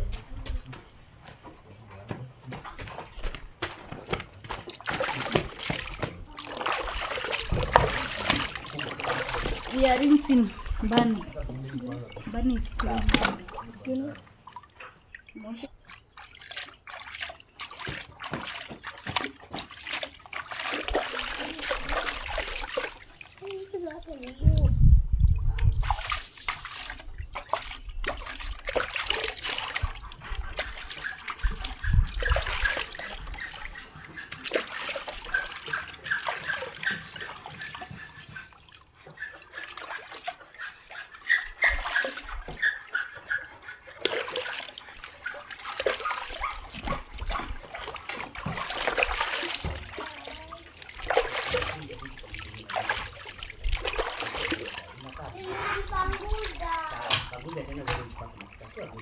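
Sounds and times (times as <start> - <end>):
water splashing: 0.0 - 59.0.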